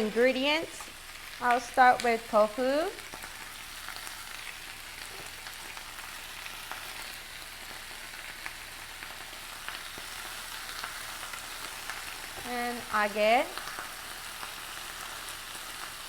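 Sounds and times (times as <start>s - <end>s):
meat sizzling in a skillet: 0.0s - 16.0s.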